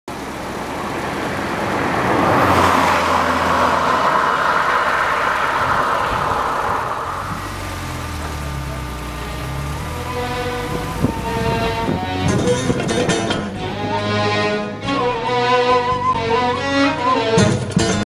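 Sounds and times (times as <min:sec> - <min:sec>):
car road noise: 0:00.1 - 0:18.0.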